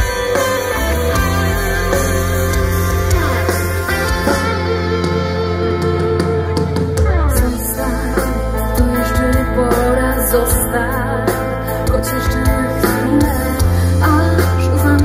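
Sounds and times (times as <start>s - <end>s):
drums playing: 0.0s - 13.6s
electric guitars: 0.0s - 15.0s
steady bass: 0.0s - 15.0s.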